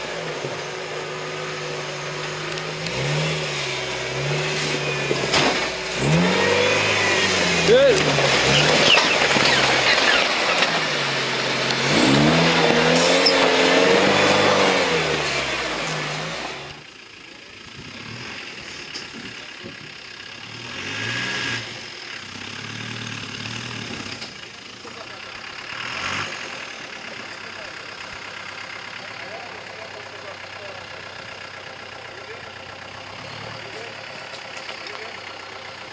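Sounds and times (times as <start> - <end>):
off-road engine revving: 0.0 - 35.9.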